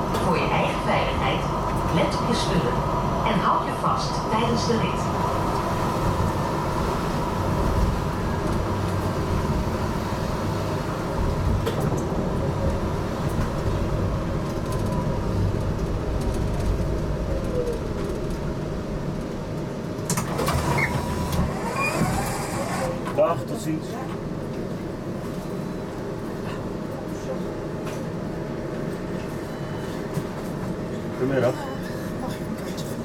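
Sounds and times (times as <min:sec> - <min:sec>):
tram wheels rumbling on rails: 0:00.0 - 0:33.0.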